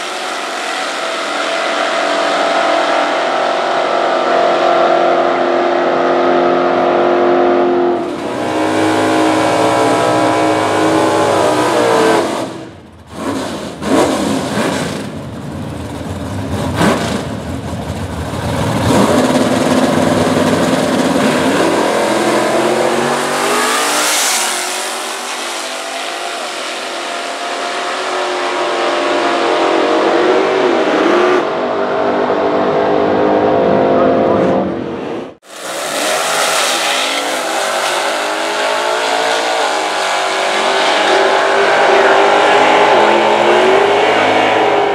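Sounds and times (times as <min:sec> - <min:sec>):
drag car engines at full throttle: 0:00.0 - 0:44.9.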